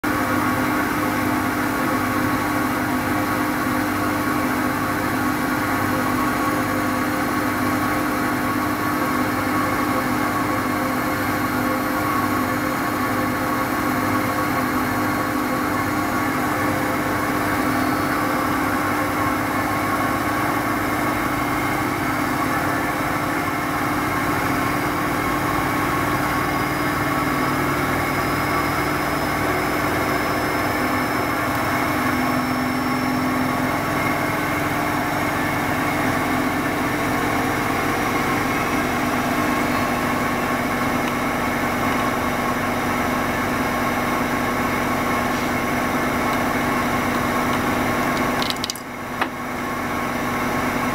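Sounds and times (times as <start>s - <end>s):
washing machine running: 0.0s - 50.9s.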